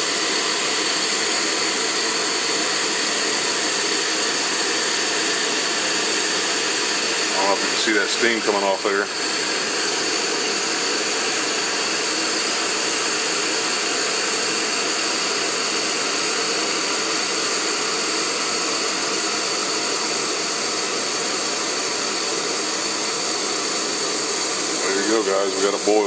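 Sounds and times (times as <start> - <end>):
camping stove hissing: 0.0 - 26.0.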